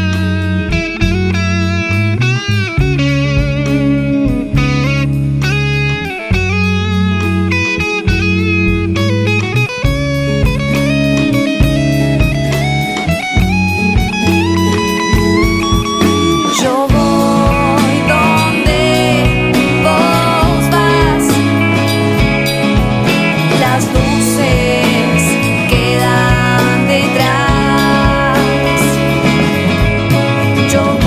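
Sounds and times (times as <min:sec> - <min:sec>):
bass line: 0:00.0 - 0:31.0
electric guitar: 0:00.0 - 0:31.0
steady drum beat: 0:00.0 - 0:31.0.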